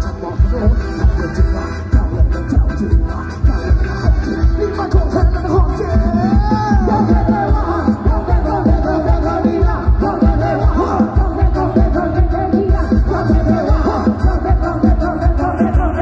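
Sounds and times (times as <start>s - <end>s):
dance music over loudspeakers: 0.0s - 16.0s
heavy bass beat: 0.0s - 16.0s
person singing: 0.0s - 16.0s.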